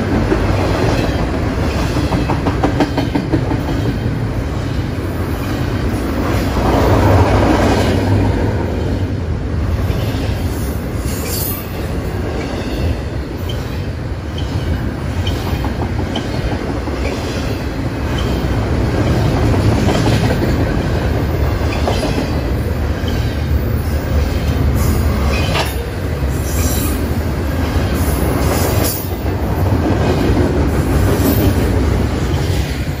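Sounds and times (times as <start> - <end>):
freight train wheels rumbling: 0.0 - 33.0
train cars clanking: 0.0 - 33.0.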